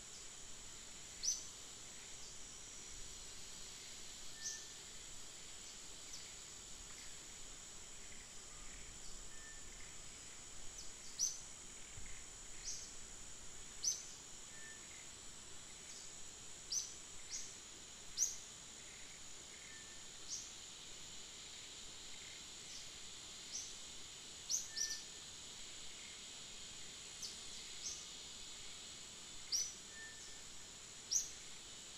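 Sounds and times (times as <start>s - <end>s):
high-pitched insect drone: 0.1s - 31.9s.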